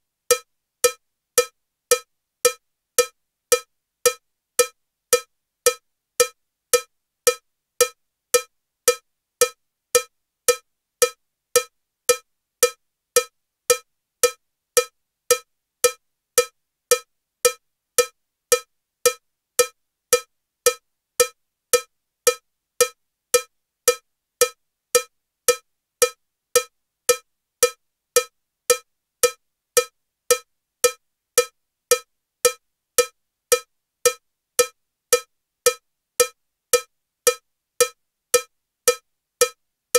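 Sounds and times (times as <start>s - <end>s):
cowbell metronome clicking: 0.3s - 39.6s.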